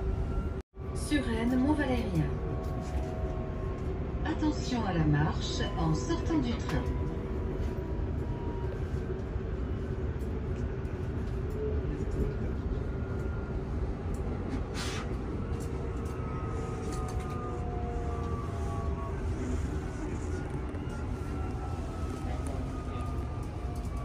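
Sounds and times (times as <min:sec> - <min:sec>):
train rumble inside carriage: 0:00.0 - 0:24.0.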